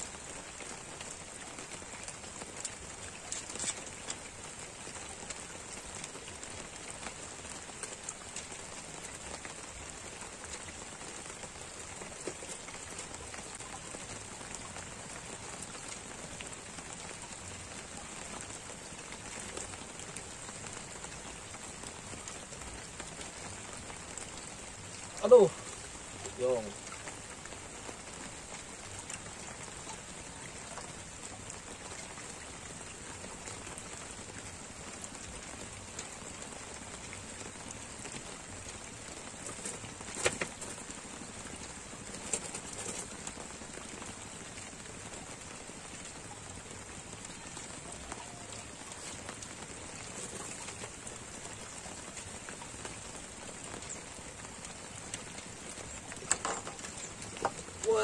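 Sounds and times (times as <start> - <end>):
light rain on water: 0.0 - 58.0.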